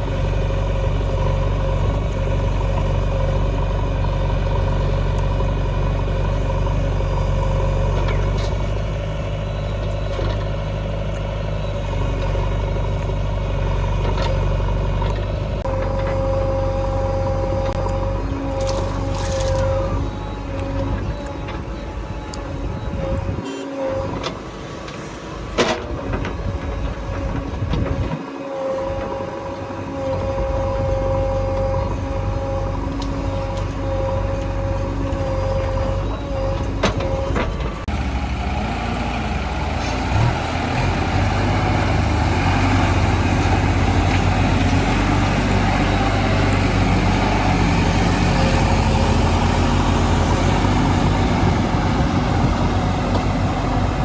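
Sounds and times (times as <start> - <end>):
diesel machinery engines running: 0.0 - 54.0.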